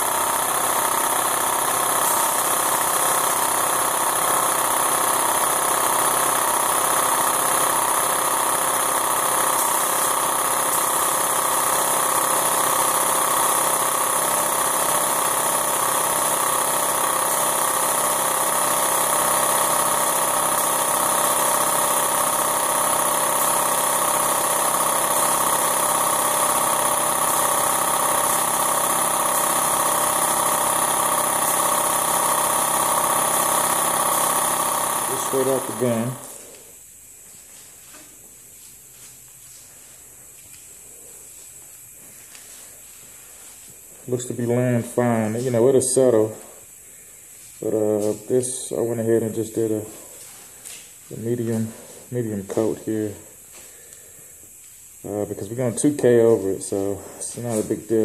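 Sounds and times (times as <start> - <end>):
air compressor running: 0.0 - 58.0
spray gun air hiss: 1.5 - 52.2.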